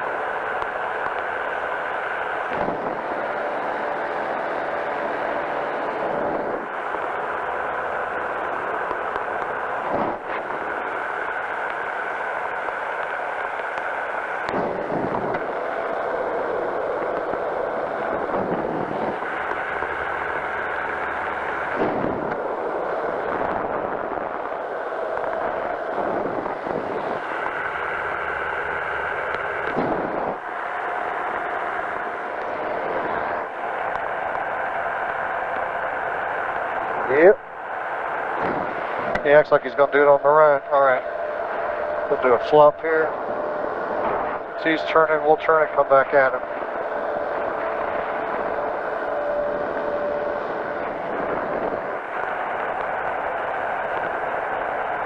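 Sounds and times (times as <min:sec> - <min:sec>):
engine and propeller running: 0:00.0 - 0:55.0
wind rushing over microphone: 0:01.2 - 0:04.9, 0:13.4 - 0:55.0.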